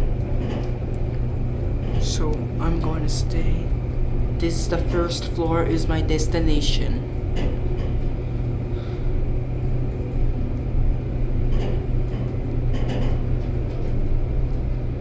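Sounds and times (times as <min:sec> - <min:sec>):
elevator rumble and hum: 0:00.0 - 0:15.0.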